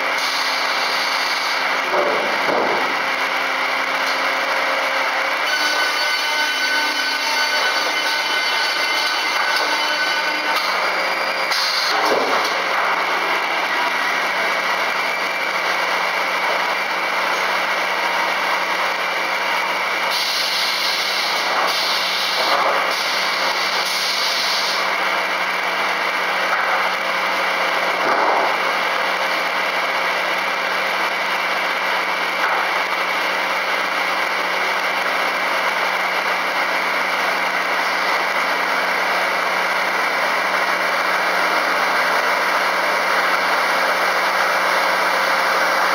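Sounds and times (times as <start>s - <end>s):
circular sawmill machine hum: 0.0s - 45.9s.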